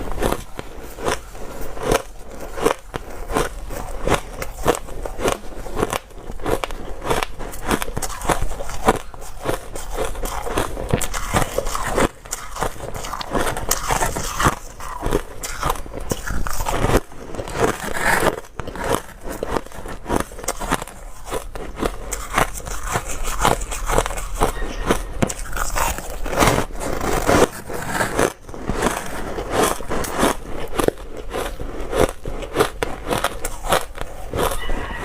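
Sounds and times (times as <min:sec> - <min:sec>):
chewing crunchy ice: 0:00.0 - 0:35.0.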